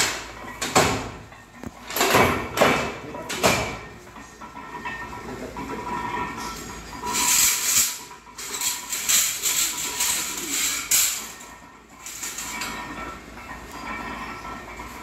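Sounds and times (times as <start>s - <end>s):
machinery running noise: 0.0s - 15.0s.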